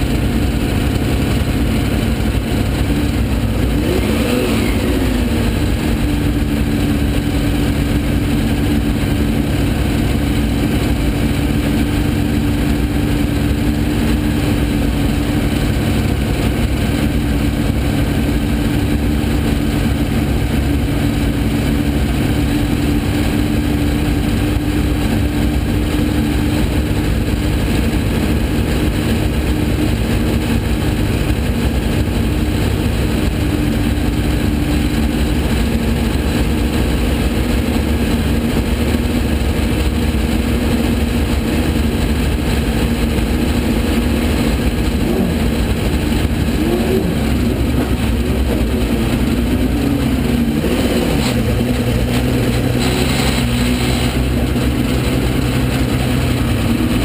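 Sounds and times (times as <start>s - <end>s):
racing engine running: 0.0s - 57.0s.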